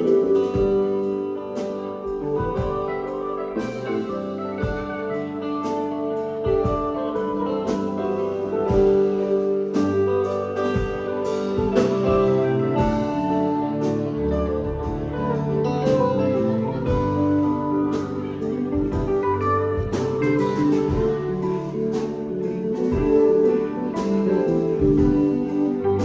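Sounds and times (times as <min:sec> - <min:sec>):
guitar: 0:00.0 - 0:26.0
live band playing: 0:00.0 - 0:26.0.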